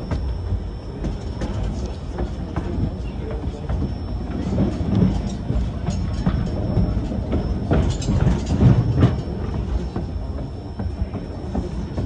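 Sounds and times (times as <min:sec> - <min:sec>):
train rumbling along track: 0:00.0 - 0:12.0
wheels clicking on rails: 0:00.0 - 0:12.0.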